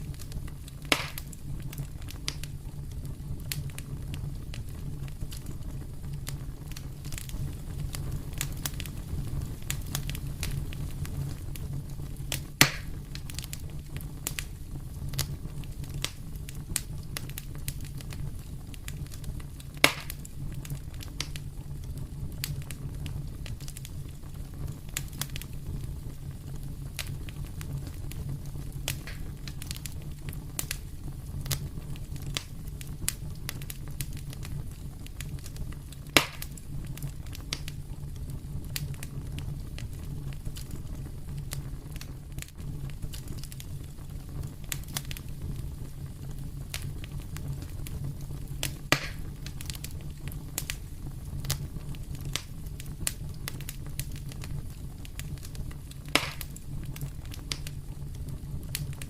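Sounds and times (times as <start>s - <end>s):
fire crackling: 0.0s - 59.0s
loud fire pops: 0.0s - 59.0s.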